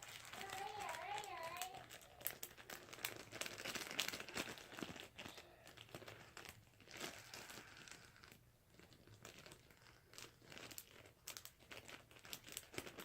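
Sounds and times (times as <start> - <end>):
slime crackling and popping: 0.0 - 13.0.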